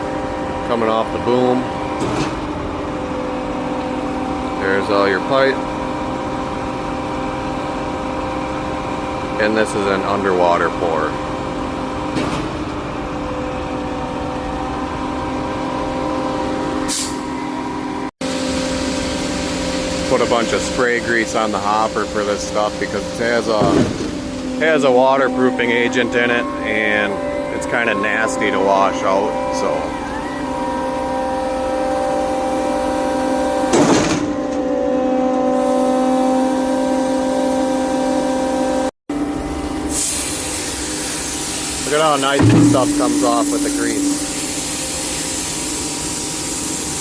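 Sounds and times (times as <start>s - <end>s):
concrete pump truck engine: 0.0s - 47.0s.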